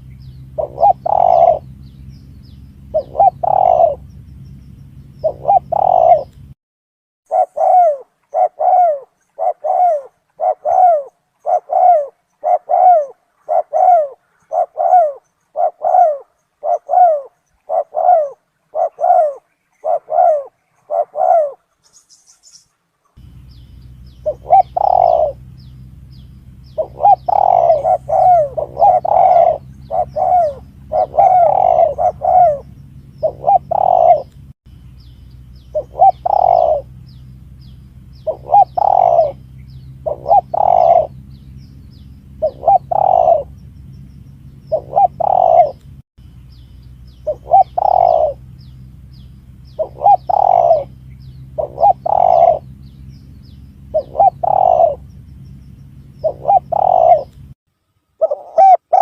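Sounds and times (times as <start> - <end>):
dove cooing: 0.0 - 6.5, 7.3 - 22.5, 23.2 - 34.4, 35.6 - 45.9, 47.1 - 57.6, 58.2 - 59.0
steady low hum: 0.0 - 6.6, 7.3 - 59.0.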